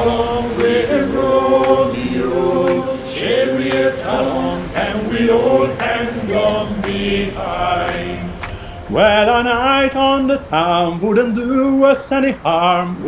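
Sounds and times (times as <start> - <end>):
group singing sea shanty unaccompanied: 0.0 - 13.0.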